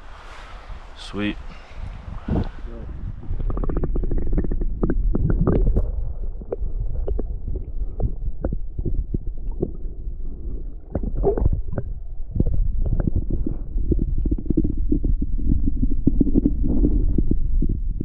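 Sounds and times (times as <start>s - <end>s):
muffled river water rumble: 0.0s - 18.0s.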